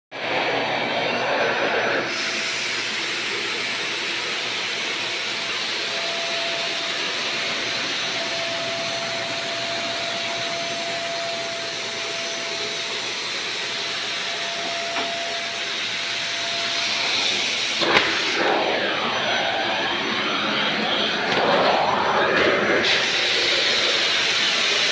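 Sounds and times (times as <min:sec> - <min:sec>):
vacuum cleaner running: 0:00.1 - 0:24.9.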